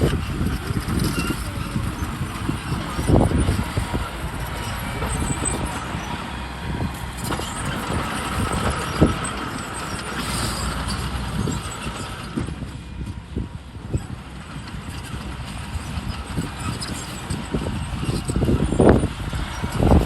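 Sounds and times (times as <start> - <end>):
heavy machinery engine rumble: 0.0 - 20.0.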